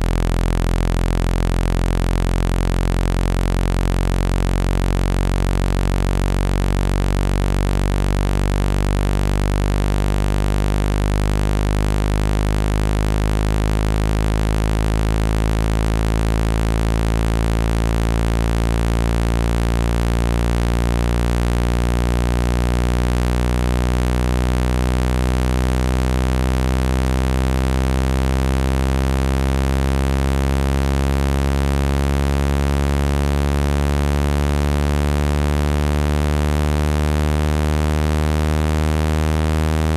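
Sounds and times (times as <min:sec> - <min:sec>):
low-pitched synthesized buzzing: 0:00.0 - 0:39.9.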